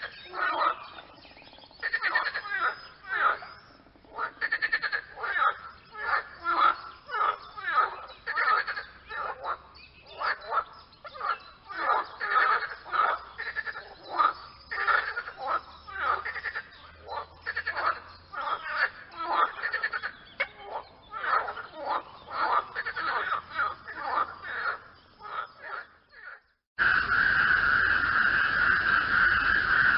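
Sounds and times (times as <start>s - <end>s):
frogs croaking: 0.0s - 29.9s.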